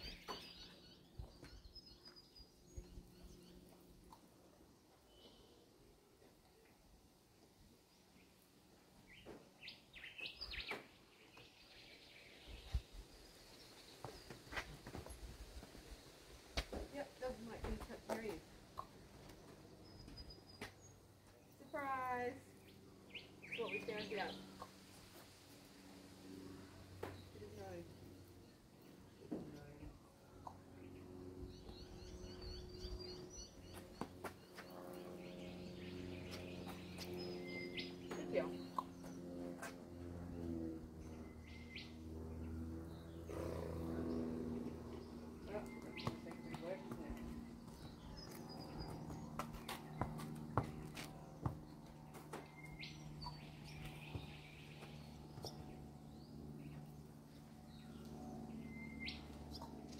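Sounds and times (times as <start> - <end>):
small birds chirping: 0.0 - 4.3, 9.1 - 16.0, 17.0 - 24.8, 27.0 - 40.4, 41.0 - 59.9
faint low hum: 0.0 - 59.9.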